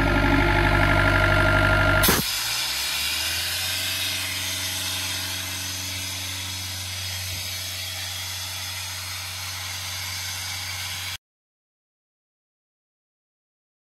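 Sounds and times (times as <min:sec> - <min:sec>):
air compressor diesel engine running: 0:00.0 - 0:11.2.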